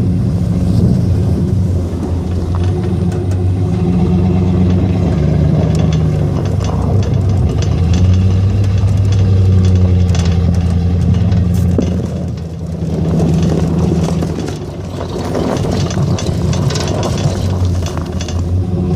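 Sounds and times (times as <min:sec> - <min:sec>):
snow plow engine running: 0:00.0 - 0:18.9
light clicks and rattles: 0:01.5 - 0:18.9.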